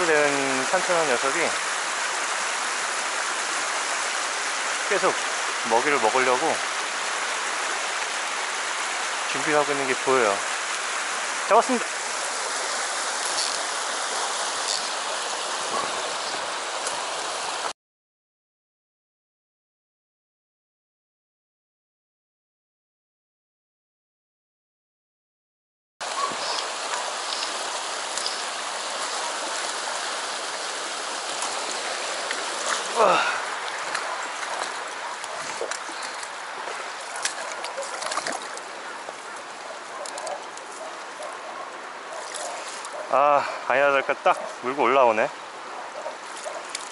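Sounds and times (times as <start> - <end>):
stream rushing over rocks: 0.0 - 17.7, 26.0 - 46.9.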